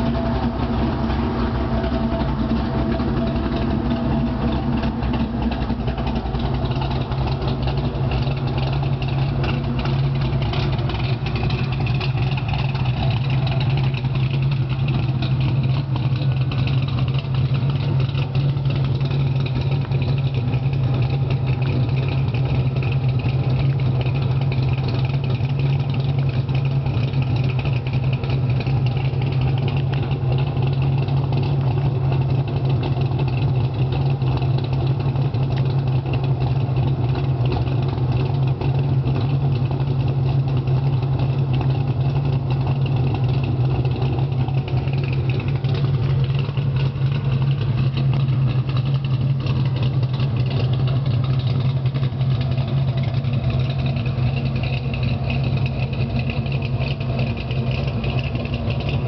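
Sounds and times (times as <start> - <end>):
car engine exhaust idling: 0.0 - 59.0.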